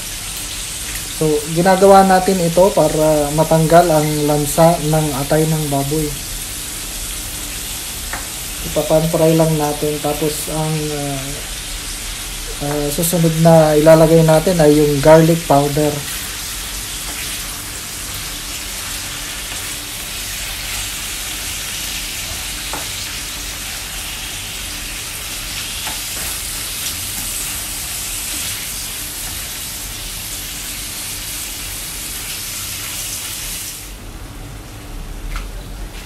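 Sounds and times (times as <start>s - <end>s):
liver sizzling in oil: 0.0s - 34.0s.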